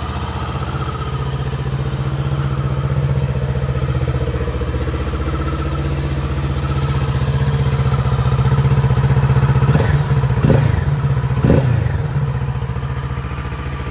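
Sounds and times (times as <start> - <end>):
motorcycle engine idling: 0.0 - 13.9.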